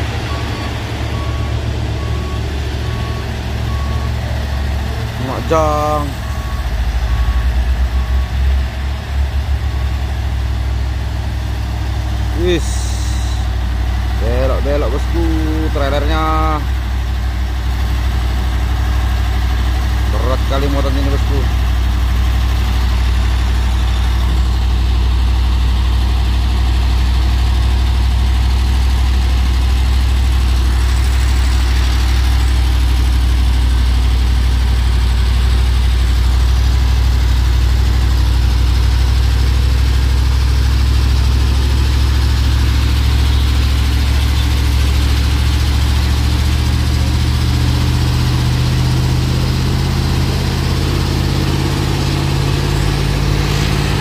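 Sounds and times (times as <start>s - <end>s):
heavy truck engine running: 0.0s - 54.0s.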